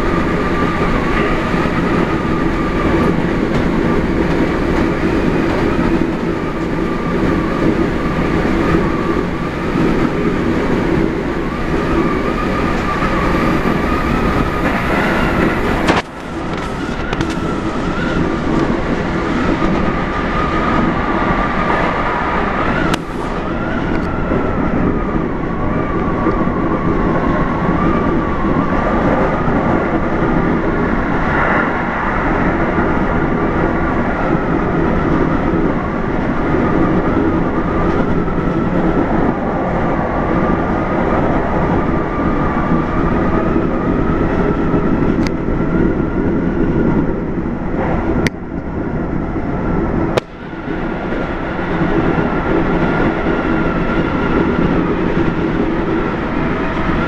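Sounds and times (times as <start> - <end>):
train wheels rumbling on rail: 0.0 - 57.0
wavering motor whine: 0.0 - 57.0.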